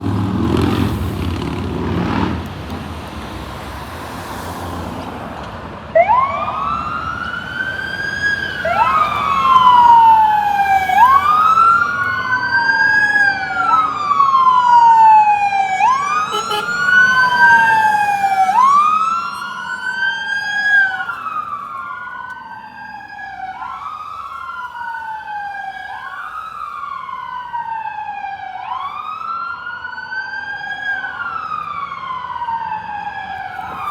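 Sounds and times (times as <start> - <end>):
fire engine sirens wailing: 5.9 - 33.9.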